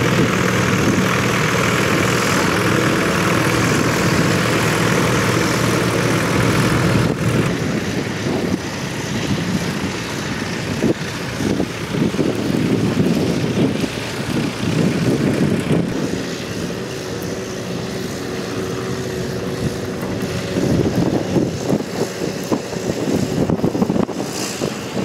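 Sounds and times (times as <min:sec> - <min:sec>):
tractor engines humming: 0:00.0 - 0:25.0.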